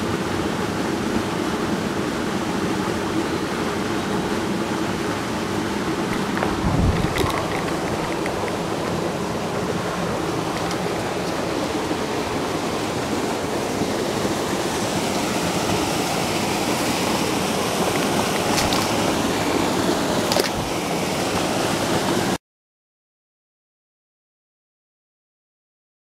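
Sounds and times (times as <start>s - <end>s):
water rushing over spillway: 0.0s - 22.4s.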